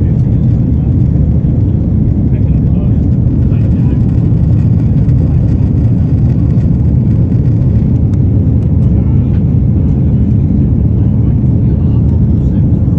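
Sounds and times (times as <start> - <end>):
aircraft taking off: 0.0 - 12.9.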